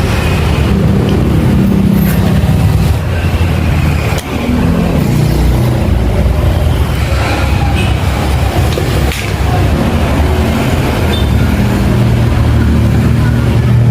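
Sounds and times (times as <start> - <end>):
vehicle engine rumbling: 0.0 - 13.9.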